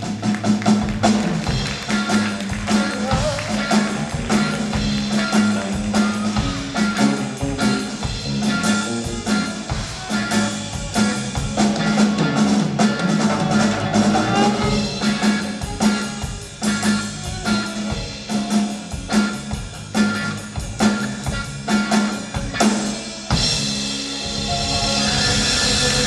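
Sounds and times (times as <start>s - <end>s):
drum kit beat: 0.0s - 26.0s.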